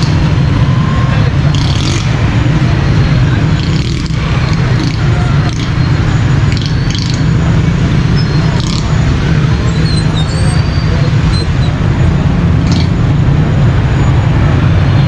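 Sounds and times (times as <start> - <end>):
low rumble of passing vehicles: 0.0 - 15.0.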